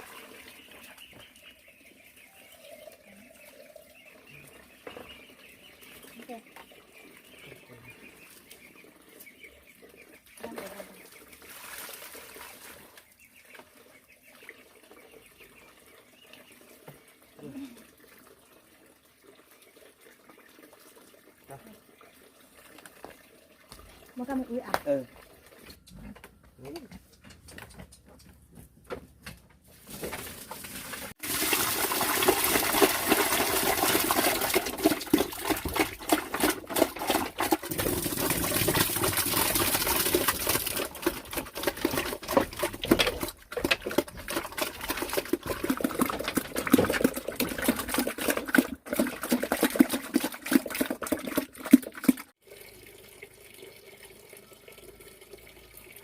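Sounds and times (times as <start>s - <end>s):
water pouring and splashing: 0.0s - 25.8s, 29.7s - 56.0s.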